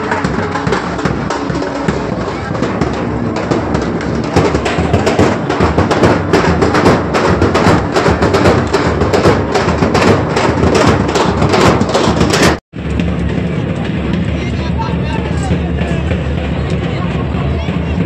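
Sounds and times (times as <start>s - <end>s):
rapid loud drumming: 0.0s - 18.0s.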